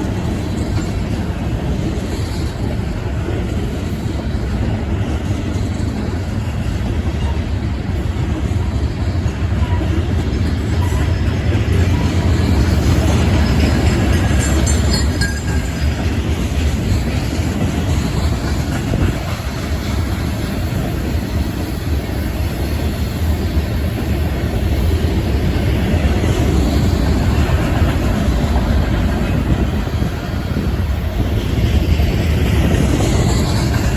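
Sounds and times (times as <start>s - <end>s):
freight train cars rolling: 0.0s - 33.9s
wind buffeting microphone: 0.0s - 33.9s.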